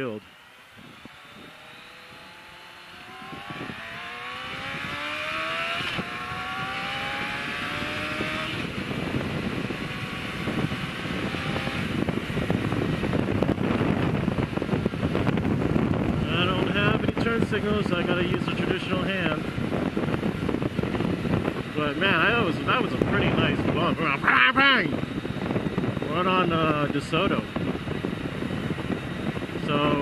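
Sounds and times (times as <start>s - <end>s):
motorcycle accelerating hard: 0.0s - 30.0s
wind rush on microphone: 0.0s - 30.0s.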